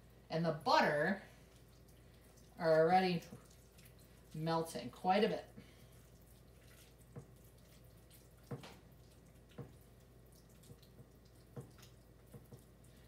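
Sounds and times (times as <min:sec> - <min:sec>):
utensil stirring in a bowl: 0:01.3 - 0:13.0.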